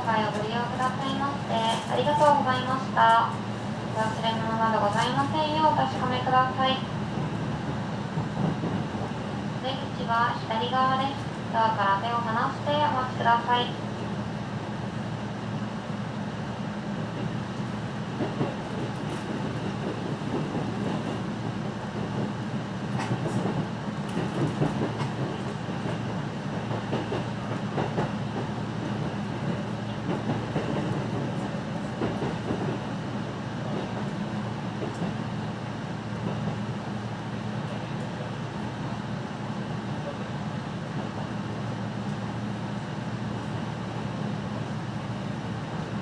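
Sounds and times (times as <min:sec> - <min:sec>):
wheels rumbling on rail: 0:00.0 - 0:46.0.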